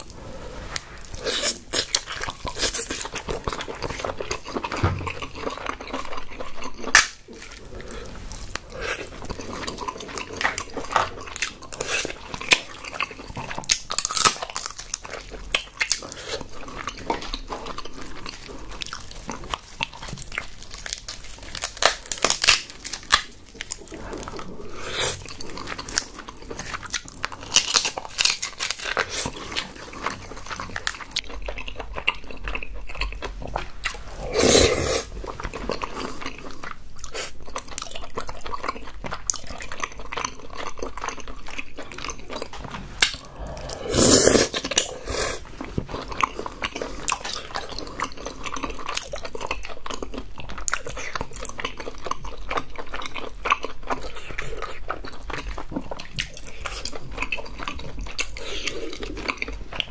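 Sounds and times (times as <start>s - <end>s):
chewing and wet mouth sounds: 0.0s - 59.9s.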